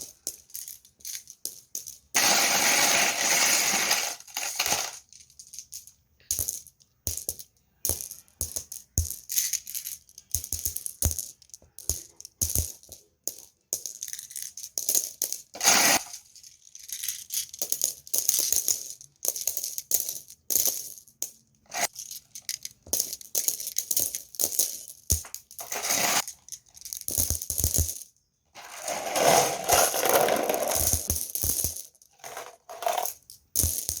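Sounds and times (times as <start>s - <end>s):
glass marbles clattering: 0.0s - 6.6s, 7.2s - 34.0s.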